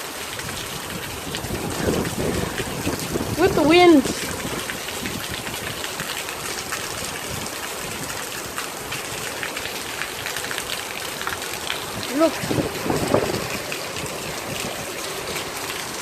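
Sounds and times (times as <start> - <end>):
steady rain falling: 0.0 - 16.0
wind gusts: 0.0 - 16.0.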